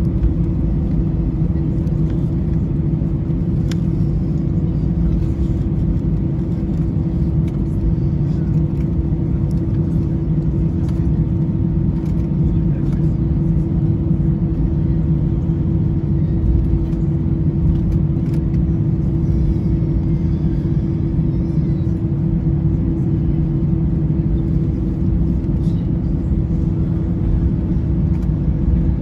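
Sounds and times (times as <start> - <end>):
constant hum: 0.0 - 29.0
jet engines rumbling at idle: 0.0 - 29.0.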